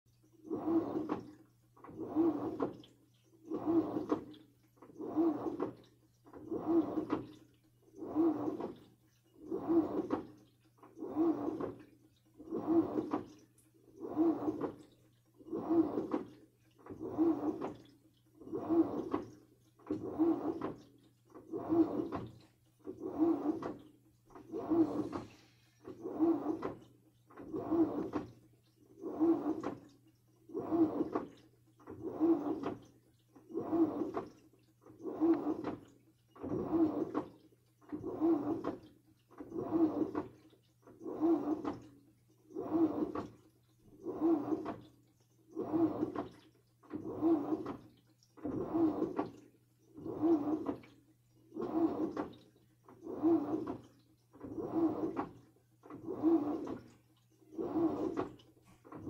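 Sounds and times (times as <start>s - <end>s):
water sloshing in washing machine: 0.0s - 59.0s.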